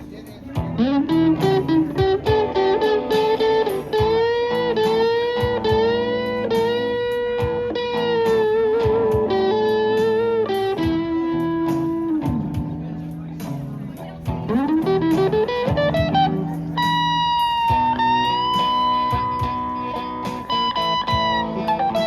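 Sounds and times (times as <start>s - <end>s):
electric guitar bending notes: 0.0s - 22.0s
live band playing: 0.0s - 22.0s.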